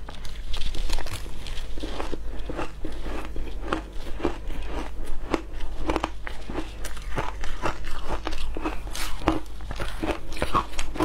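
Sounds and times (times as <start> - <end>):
shaved ice crunching in mouth: 0.8 - 11.0.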